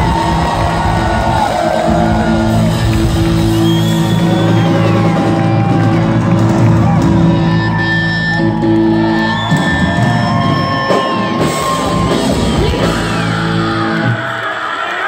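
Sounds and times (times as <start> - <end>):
crowd yelling and cheering: 0.0 - 15.0.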